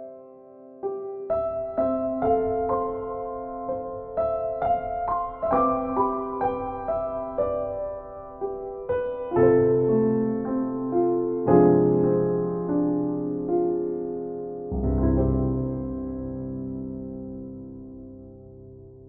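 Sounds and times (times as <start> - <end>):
gentle solo piano music: 0.0 - 19.0.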